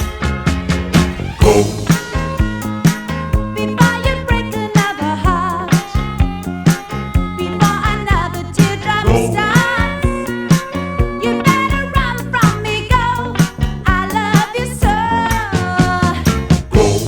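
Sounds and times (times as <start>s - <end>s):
upbeat background music: 0.0s - 17.0s.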